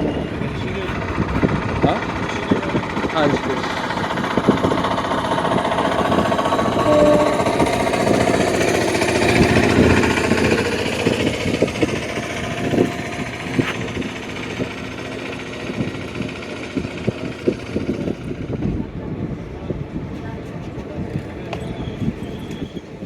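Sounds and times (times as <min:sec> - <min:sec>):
drone: 0:00.0 - 0:20.4
train rumbling and rattling: 0:00.0 - 0:23.0
wheels clicking over rail joints: 0:00.0 - 0:23.0.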